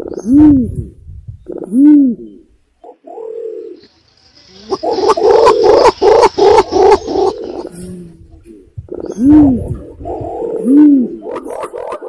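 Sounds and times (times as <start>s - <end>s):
throaty pulsing pigeon notes: 0.0s - 12.0s
pigeon cooing: 1.5s - 3.8s, 4.6s - 12.0s.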